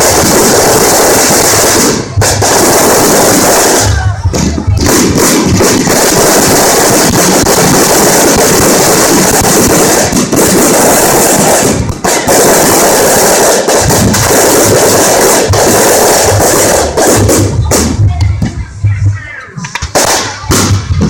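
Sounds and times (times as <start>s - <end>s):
bonfire roaring and crackling: 0.0s - 19.2s.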